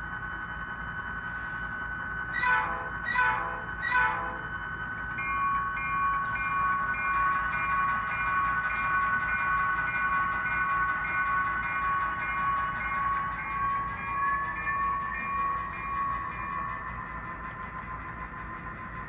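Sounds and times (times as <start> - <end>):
model locomotive engine drone: 0.0 - 19.0
locomotive bell ringing: 2.2 - 19.0.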